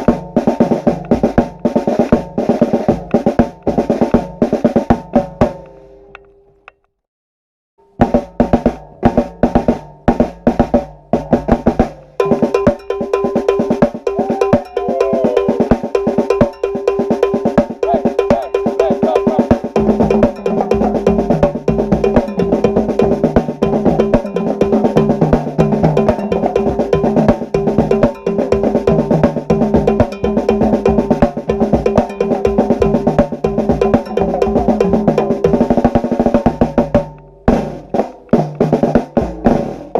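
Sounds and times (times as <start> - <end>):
snare and bass drum groove: 0.0 - 5.9, 8.0 - 39.9.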